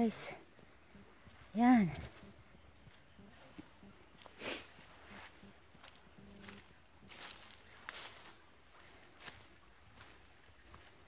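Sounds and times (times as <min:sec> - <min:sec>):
faint footsteps on forest ground: 0:00.0 - 0:11.0.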